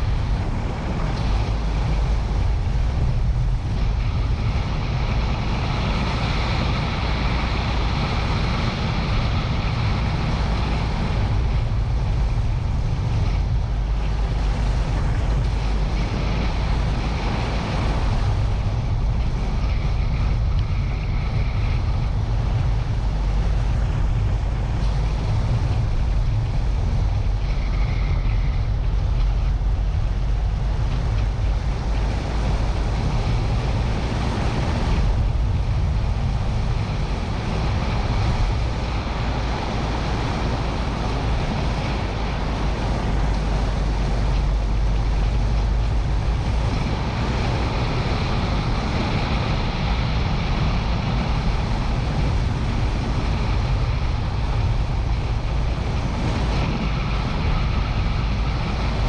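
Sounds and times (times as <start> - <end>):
car engine rumble: 0.0 - 59.0
tyres on rough tarmac: 0.0 - 59.0
wind buffeting microphone: 0.0 - 59.0.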